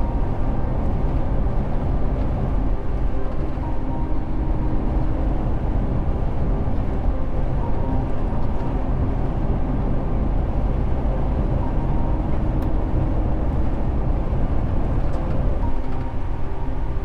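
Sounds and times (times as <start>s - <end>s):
truck diesel engine rumble: 0.0s - 17.0s.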